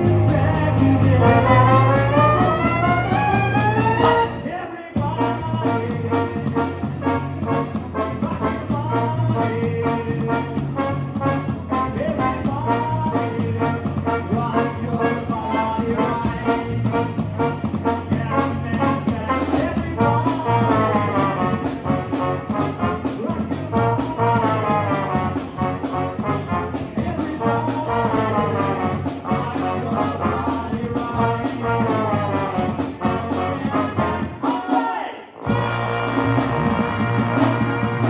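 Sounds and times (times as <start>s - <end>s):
live band with horns: 0.0s - 38.0s.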